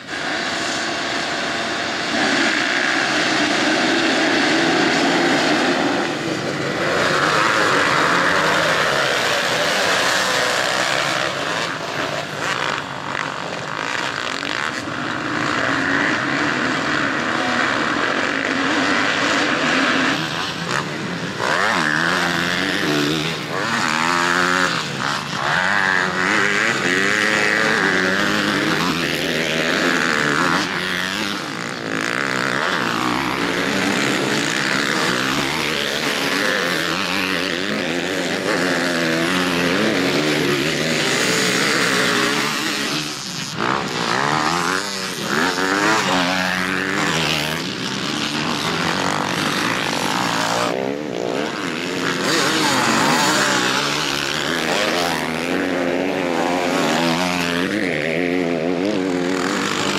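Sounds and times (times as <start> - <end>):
motocross bikes racing: 0.0 - 59.9.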